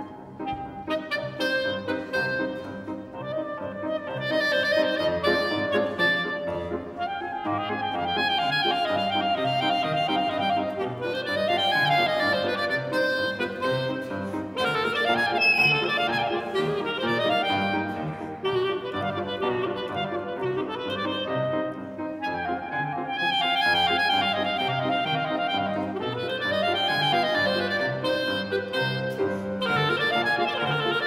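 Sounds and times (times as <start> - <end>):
clarinet playing quick runs: 0.0 - 31.0.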